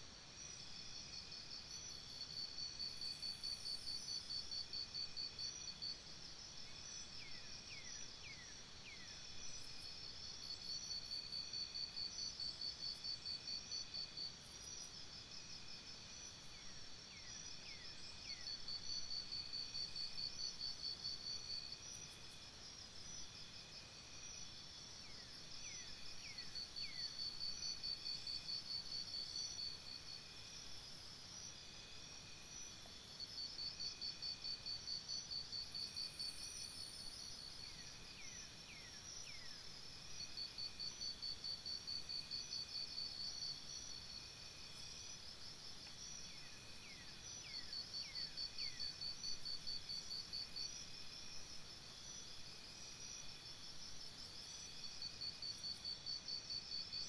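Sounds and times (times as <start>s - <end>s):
insect chorus trills: 0.3s - 57.0s.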